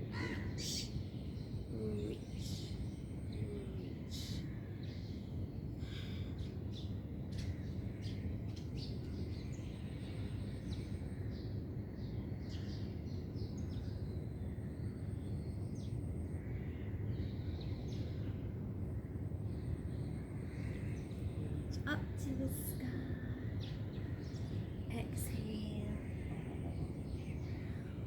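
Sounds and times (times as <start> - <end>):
low background rumble: 0.0 - 28.0
small birds chirping: 0.1 - 18.5, 19.1 - 28.0.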